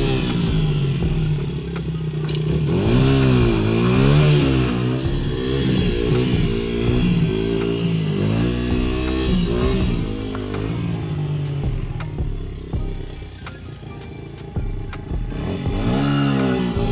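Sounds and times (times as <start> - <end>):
two-stroke engine revving: 0.0 - 16.9.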